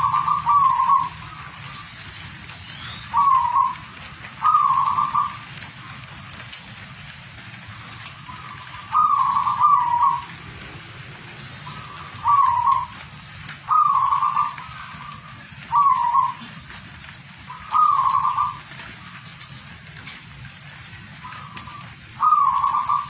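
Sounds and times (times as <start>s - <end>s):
dove cooing: 0.0s - 6.8s, 7.7s - 20.0s, 20.6s - 23.0s
steady background hiss: 0.0s - 23.0s.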